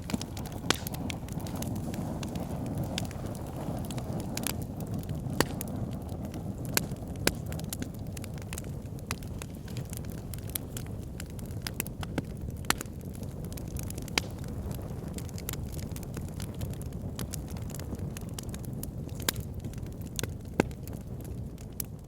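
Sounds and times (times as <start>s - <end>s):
fire crackles and pops: 0.0s - 22.0s
low rush of flames: 0.0s - 22.0s.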